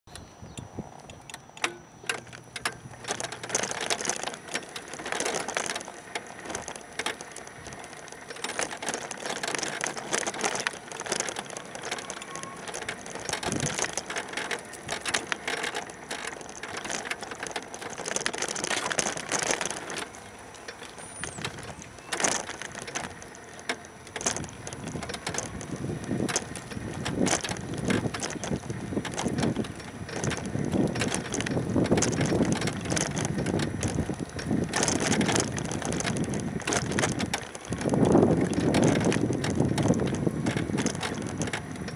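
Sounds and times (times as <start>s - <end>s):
wheelchair rattling on concrete: 1.0s - 41.9s
wheelchair jolting knocks: 1.7s - 41.9s.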